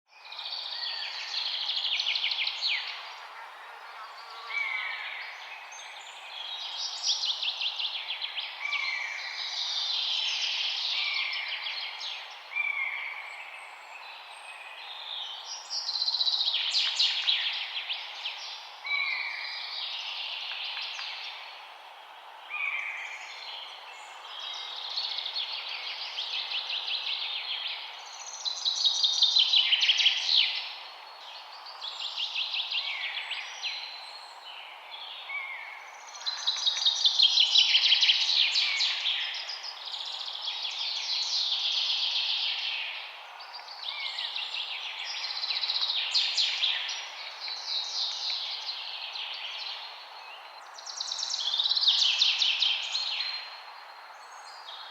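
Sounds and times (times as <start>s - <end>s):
songbirds singing: 0.1s - 54.9s.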